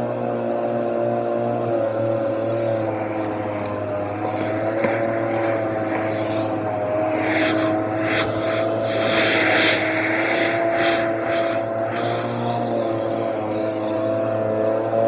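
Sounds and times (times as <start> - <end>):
vacuum cleaner motor whine: 0.0 - 15.0
air hissing through nozzle: 2.0 - 14.8.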